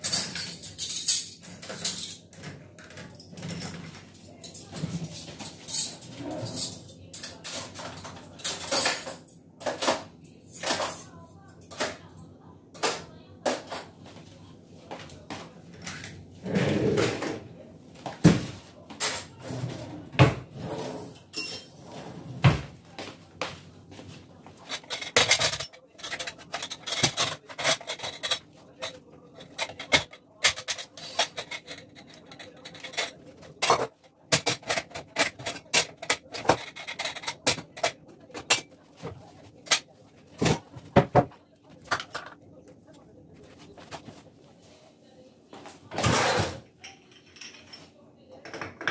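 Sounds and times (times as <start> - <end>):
dishes and cutlery clattering: 0.0 - 14.3, 14.9 - 42.4, 45.6 - 48.9.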